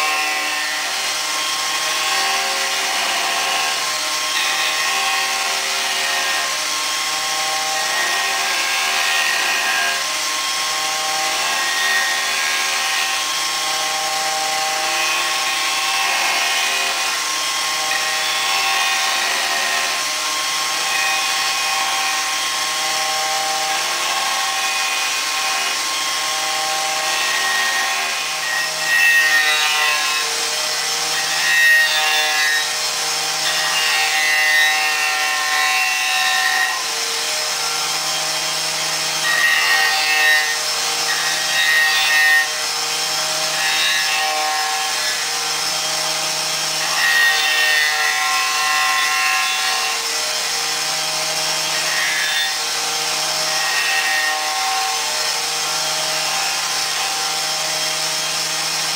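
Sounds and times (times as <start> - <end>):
cutter head rasping into wood: 0.0 - 58.9.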